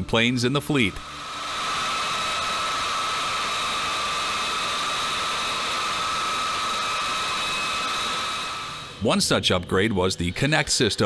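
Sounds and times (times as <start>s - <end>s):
jet engines whining: 0.0s - 9.6s.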